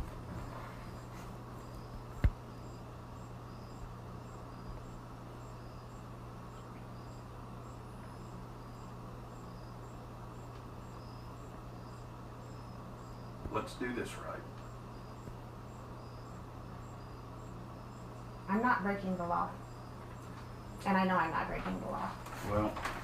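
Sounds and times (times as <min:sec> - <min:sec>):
crickets chirping faintly: 0:00.0 - 0:23.0
steady low hum: 0:00.0 - 0:23.0.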